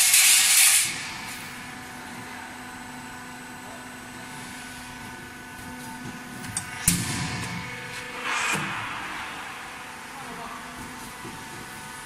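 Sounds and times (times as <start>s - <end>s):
machine humming: 0.9s - 12.0s.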